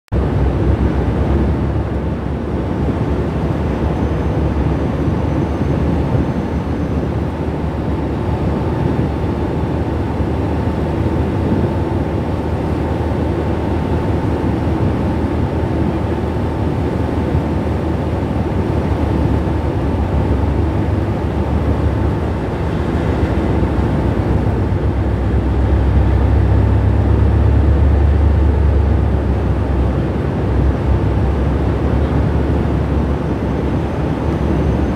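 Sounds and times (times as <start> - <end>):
ship diesel engines rumbling: 0.2 - 34.9.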